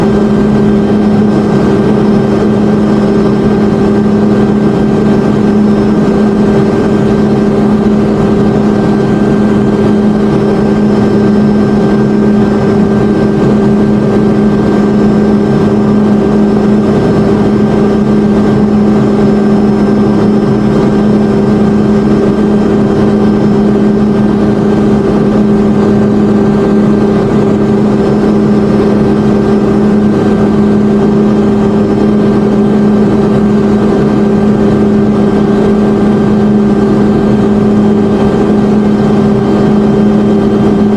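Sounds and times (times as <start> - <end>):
helicopter drone inside cockpit: 0.0 - 40.9
high whine: 0.0 - 40.9.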